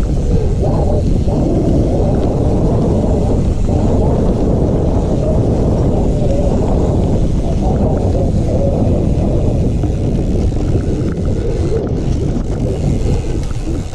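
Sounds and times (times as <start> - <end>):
bike tyres rolling over trail: 0.0 - 13.9
wind buffeting microphone: 0.0 - 13.9.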